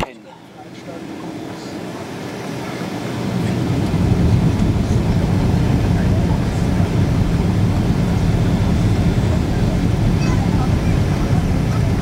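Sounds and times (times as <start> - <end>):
aircraft engines and airflow in cabin: 0.0 - 12.0.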